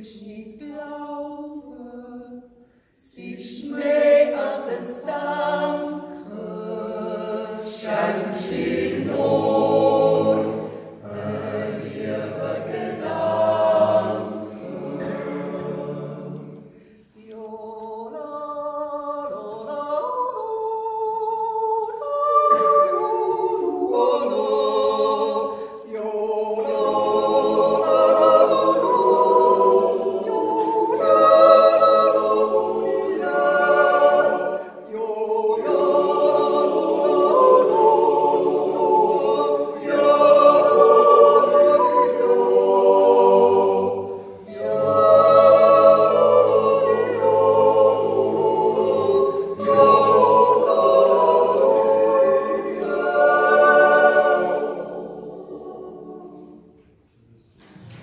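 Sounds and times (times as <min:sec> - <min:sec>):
choir yodeling in harmony: 0:00.0 - 0:58.0.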